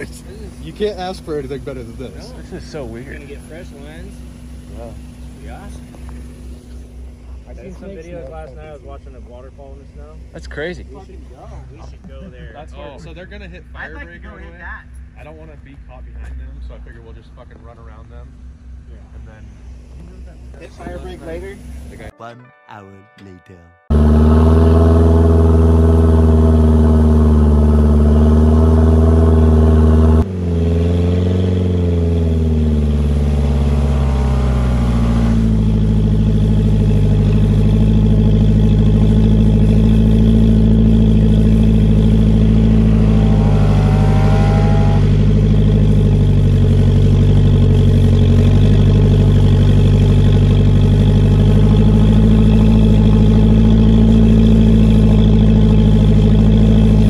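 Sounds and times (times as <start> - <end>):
pickup engine revving: 0.0 - 22.1, 23.9 - 57.0
truck engine droning: 0.0 - 22.2, 23.9 - 57.0.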